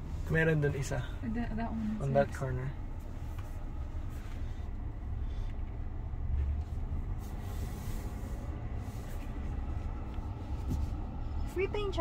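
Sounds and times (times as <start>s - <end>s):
tyre and road rumble: 0.0s - 12.0s.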